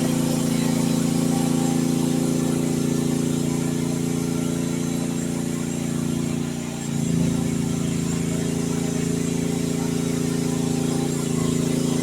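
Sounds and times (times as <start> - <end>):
mini excavator engine running: 0.0 - 12.0.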